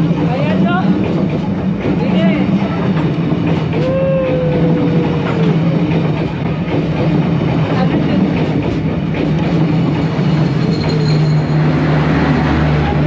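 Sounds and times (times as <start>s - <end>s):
rail clicks and knocks: 0.0s - 13.0s
train rumbling past: 0.0s - 13.0s.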